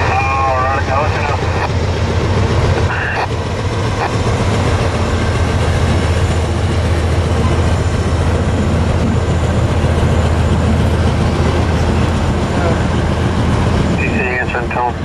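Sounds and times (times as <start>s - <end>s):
freight train rumbling over bridge: 0.0s - 15.0s.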